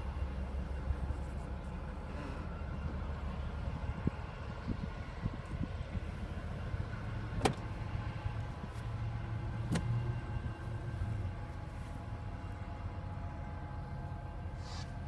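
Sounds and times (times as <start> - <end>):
distant diesel locomotive rumble: 0.0 - 15.0.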